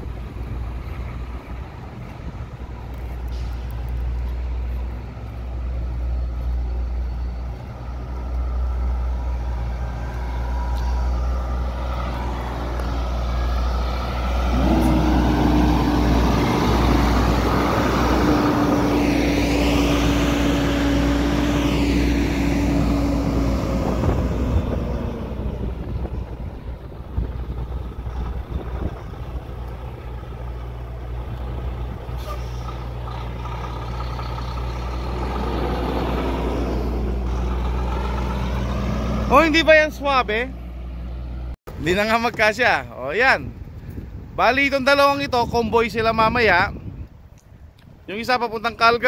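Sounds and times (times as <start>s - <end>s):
wind rumbling on microphone: 0.0s - 39.2s, 41.7s - 49.0s
truck diesel engine: 0.0s - 42.8s.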